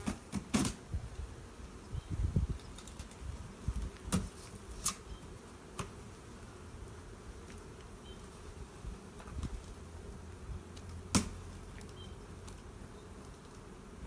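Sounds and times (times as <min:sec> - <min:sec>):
bee swarm buzzing: 0:00.0 - 0:14.0.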